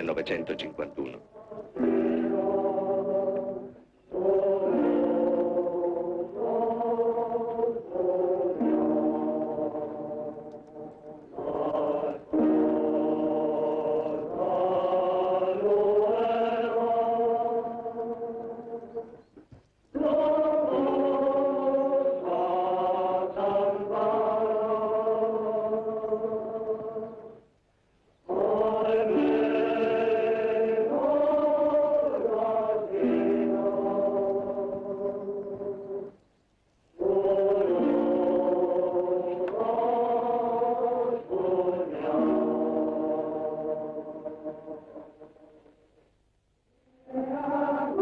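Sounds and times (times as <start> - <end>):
choir singing long chords: 0.0 - 19.3, 19.9 - 27.5, 28.2 - 36.2, 36.9 - 48.0.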